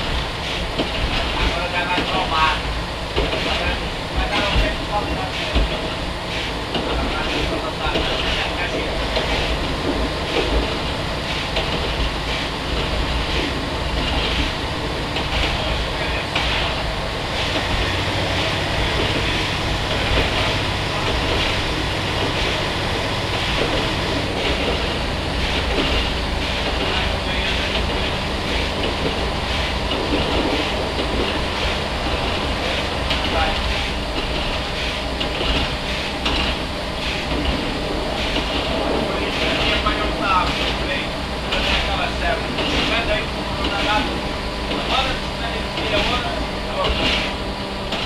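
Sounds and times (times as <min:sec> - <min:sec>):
diesel railcar engine drone: 0:00.0 - 0:48.0
wheel and track noise: 0:00.0 - 0:48.0.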